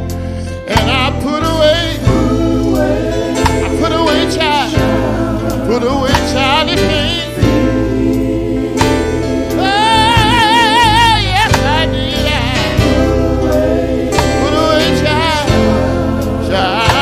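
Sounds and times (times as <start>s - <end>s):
drums: 0.0s - 17.0s
electric bass: 0.0s - 17.0s
man singing gospel: 0.4s - 17.0s.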